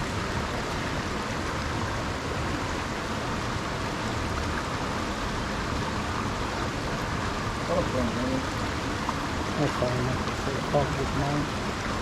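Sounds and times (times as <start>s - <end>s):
creek water flowing over rocks: 0.0s - 12.0s.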